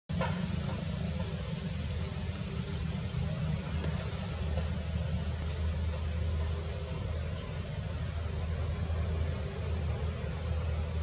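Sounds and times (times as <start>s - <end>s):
steady hiss: 0.1s - 11.0s.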